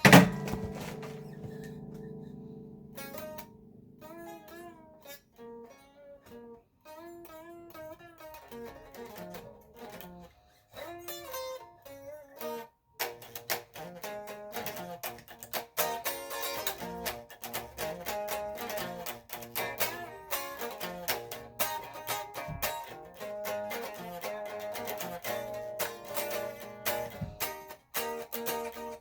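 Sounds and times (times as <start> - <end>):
guitar melody and strumming: 0.0 - 29.0.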